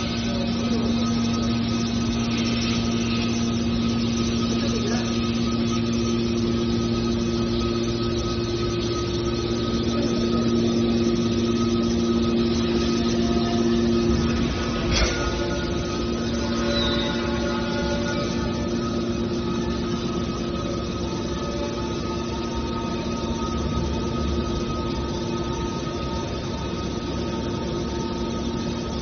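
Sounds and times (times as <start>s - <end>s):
hydraulic power unit humming: 0.0s - 29.0s.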